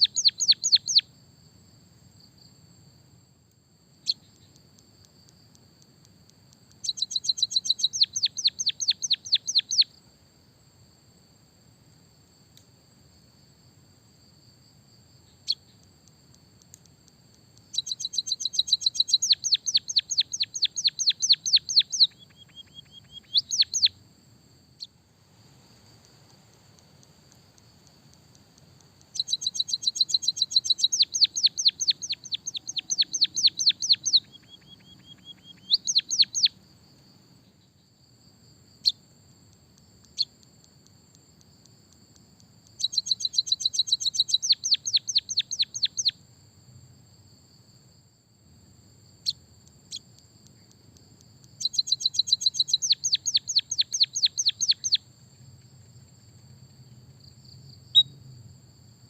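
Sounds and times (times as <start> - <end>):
songbird singing rapid chirps: 0.0 - 10.2, 12.0 - 46.2, 49.0 - 58.4.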